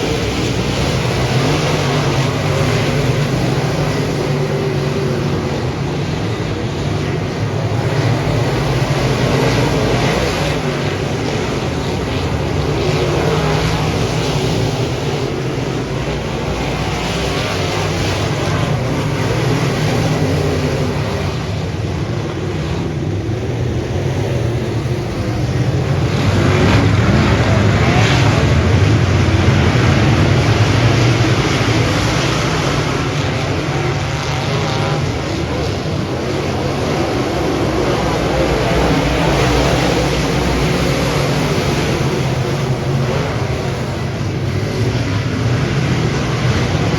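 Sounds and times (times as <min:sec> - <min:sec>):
race car engine running hard: 0:00.0 - 0:46.9.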